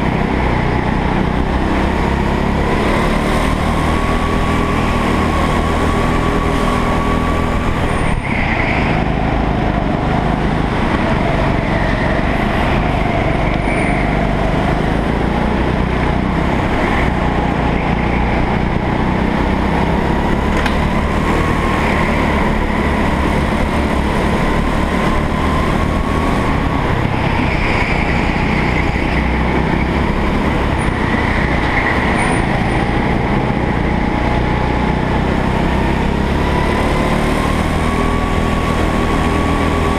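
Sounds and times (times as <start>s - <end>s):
go-kart engine under throttle: 0.0s - 39.9s.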